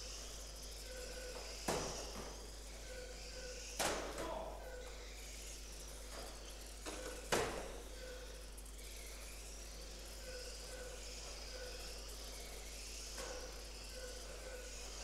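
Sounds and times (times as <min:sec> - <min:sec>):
toy car electric motors whining: 0:00.0 - 0:15.0.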